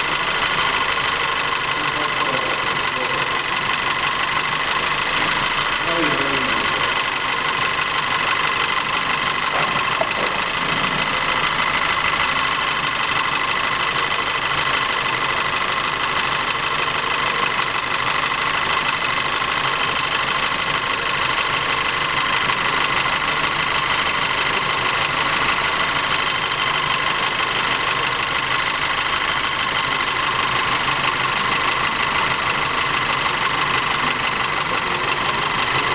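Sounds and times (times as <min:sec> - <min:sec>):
car engine idling with rapid knock: 0:00.0 - 0:35.9.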